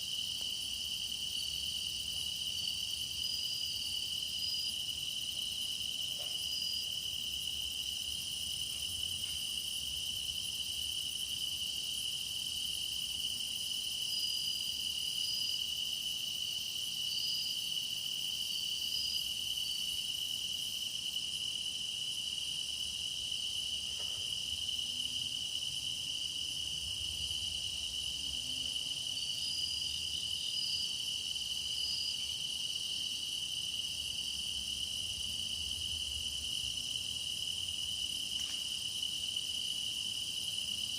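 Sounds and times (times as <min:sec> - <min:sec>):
crickets trilling: 0:00.0 - 0:40.9
higher insect chirps: 0:00.0 - 0:40.9.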